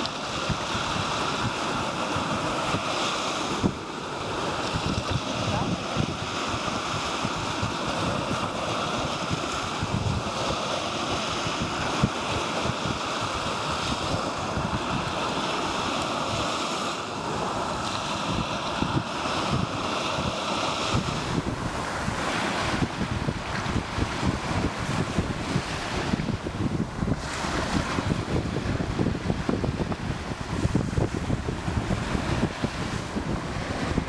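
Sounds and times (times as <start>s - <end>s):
ocean surf on beach: 0.0s - 34.0s
wind buffeting microphone: 0.0s - 34.0s.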